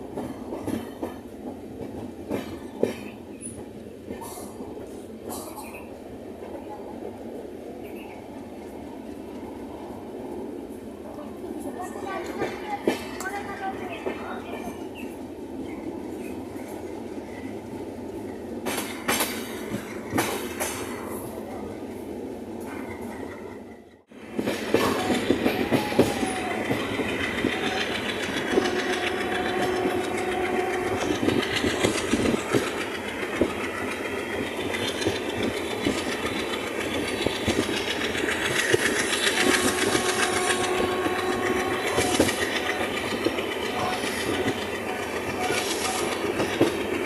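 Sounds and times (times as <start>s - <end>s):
train rumbling and clattering: 0.0s - 47.0s.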